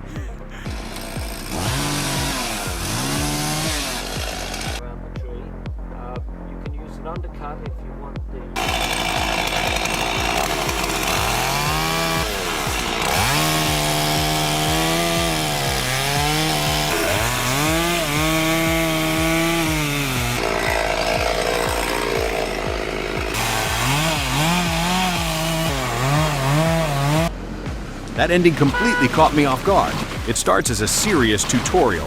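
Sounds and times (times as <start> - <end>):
chainsaw revving: 0.0 - 4.8, 8.6 - 27.3, 28.2 - 32.0.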